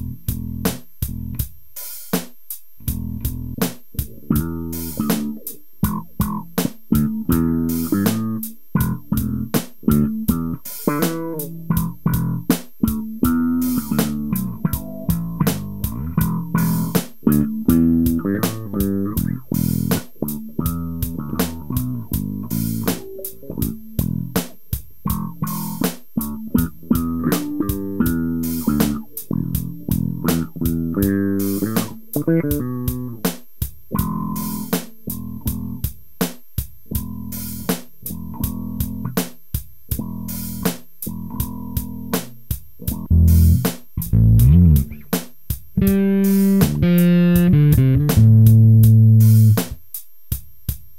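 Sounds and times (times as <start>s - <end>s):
funky electric bass line: 0.0s - 1.4s, 2.8s - 33.3s, 33.9s - 35.8s, 36.9s - 39.2s, 39.9s - 45.2s, 45.8s - 49.8s.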